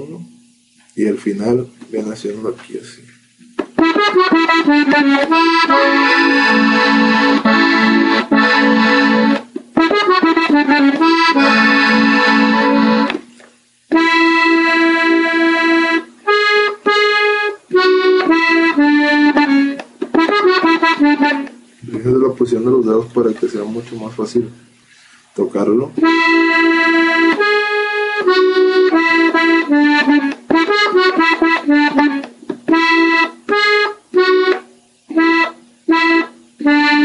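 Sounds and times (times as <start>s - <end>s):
button accordion playing: 3.6s - 13.3s, 13.9s - 24.2s, 26.0s - 37.0s.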